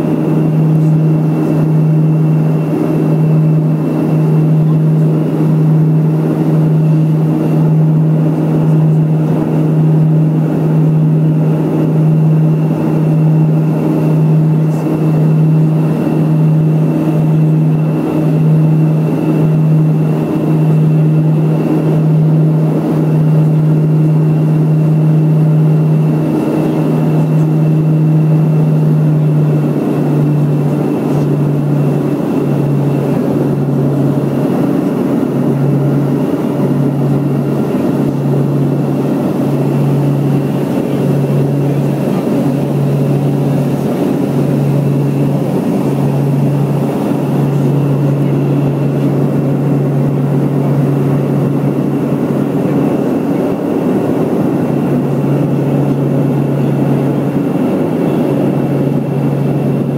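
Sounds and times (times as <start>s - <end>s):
turboprop cabin drone: 0.0s - 59.9s.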